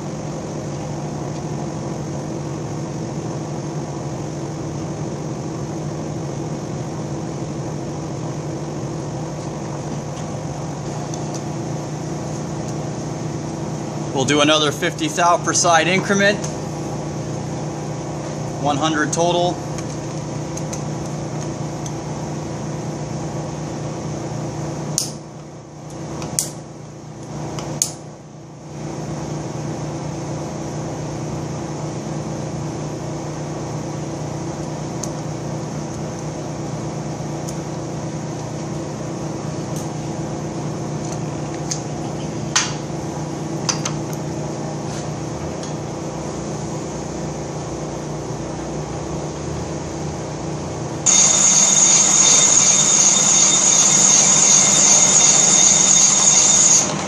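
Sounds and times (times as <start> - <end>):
electric machine hum: 0.0 - 57.0.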